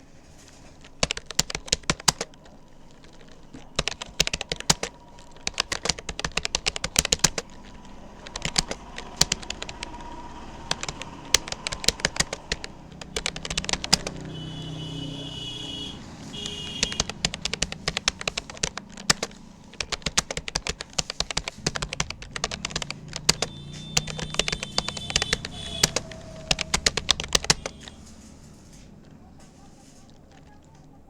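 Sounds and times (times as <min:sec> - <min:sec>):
keyboard key clicks: 0:00.8 - 0:14.4, 0:15.7 - 0:28.4.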